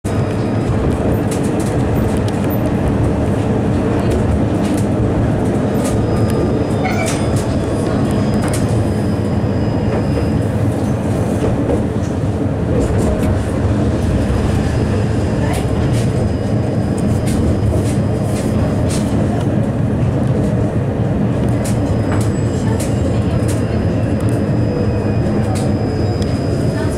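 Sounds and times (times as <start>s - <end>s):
tram rumbling on rails: 0.0s - 26.9s.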